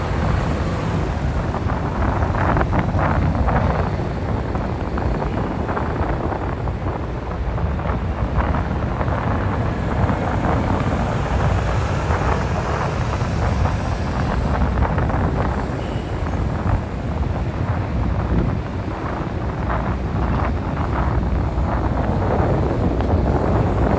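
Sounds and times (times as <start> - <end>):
low rumble of engines: 0.0 - 23.9
wind buffeting microphone: 0.0 - 23.9.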